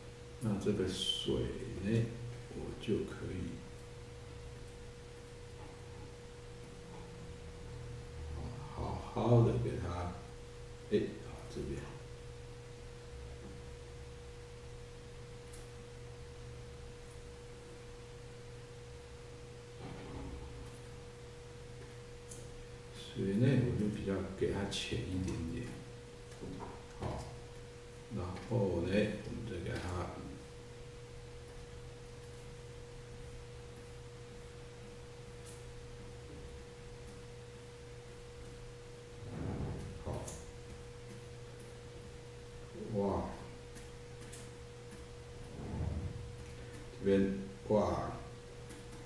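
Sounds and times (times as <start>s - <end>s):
low hum: 0.0s - 48.8s
electrical whine: 0.0s - 49.0s.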